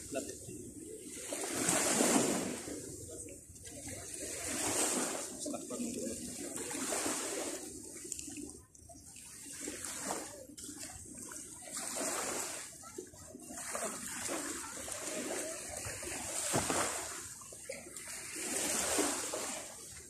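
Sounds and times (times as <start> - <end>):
seawater splashing: 0.0 - 20.0.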